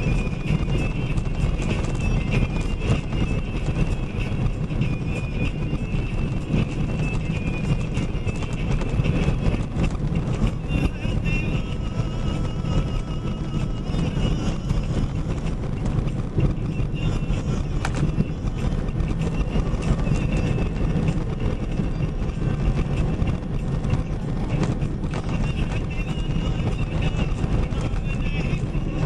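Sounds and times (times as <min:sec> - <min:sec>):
truck engine and tyre rumble: 0:00.0 - 0:29.0.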